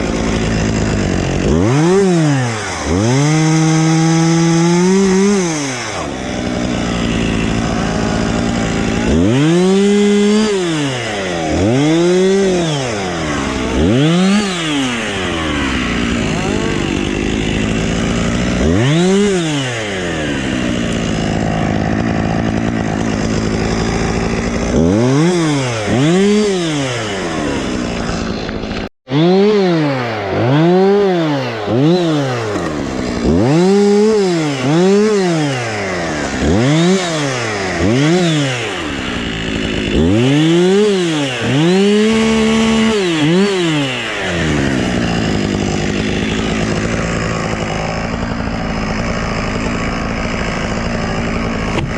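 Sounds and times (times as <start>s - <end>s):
chainsaw idling and revving: 0.0s - 51.9s.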